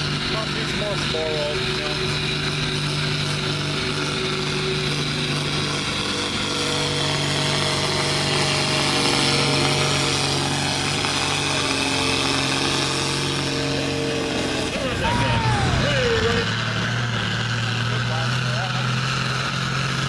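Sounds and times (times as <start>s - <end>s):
tractor engine under heavy load: 0.0s - 20.0s.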